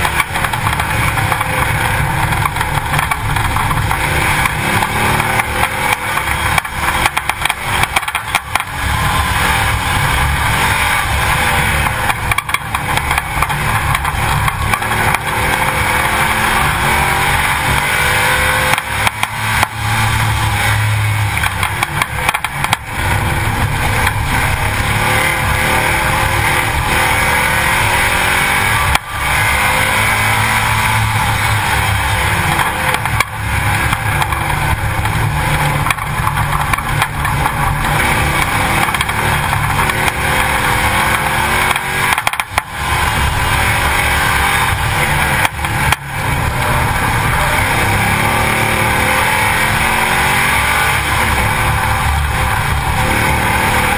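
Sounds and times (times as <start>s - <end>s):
race car engine revving: 0.0s - 53.9s
tyre and wind noise: 0.0s - 53.9s.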